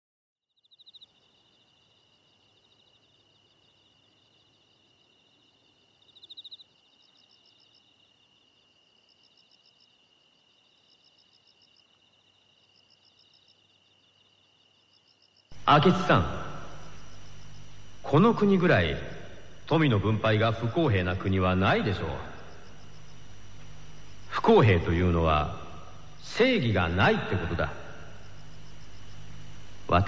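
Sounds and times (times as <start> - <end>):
insects chirping: 0.5 - 30.0.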